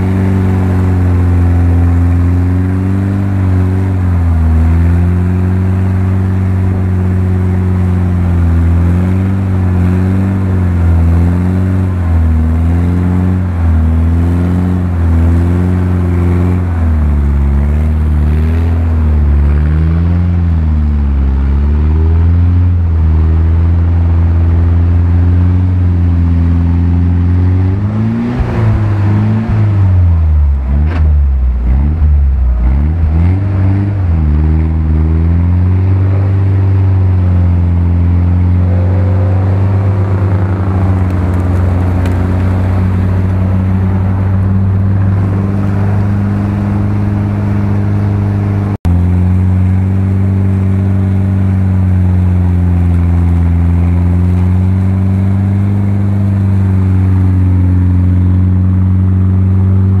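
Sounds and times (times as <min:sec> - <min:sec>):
off-road engines revving: 0:00.0 - 1:00.0.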